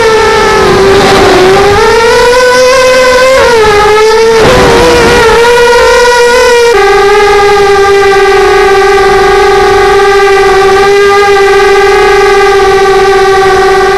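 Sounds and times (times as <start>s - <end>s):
quadcopter propellers whining: 0.0s - 13.9s.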